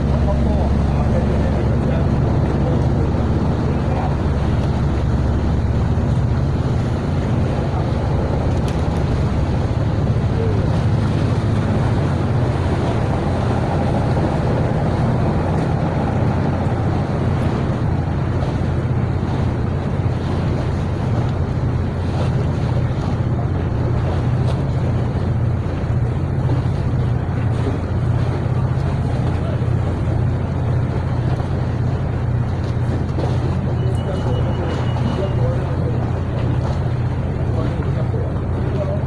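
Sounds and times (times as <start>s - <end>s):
wind buffeting microphone: 0.0s - 33.7s
boat engine droning: 0.0s - 39.0s
water noise: 0.0s - 39.0s.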